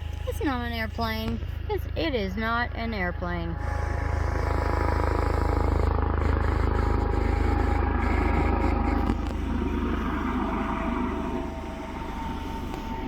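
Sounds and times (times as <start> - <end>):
propeller aircraft droning overhead: 0.0 - 13.0.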